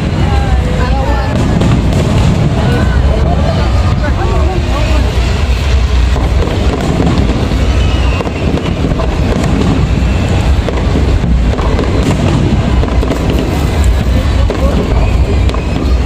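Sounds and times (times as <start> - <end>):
fireworks crackling and popping: 0.0 - 16.0
low rumble: 0.0 - 16.0.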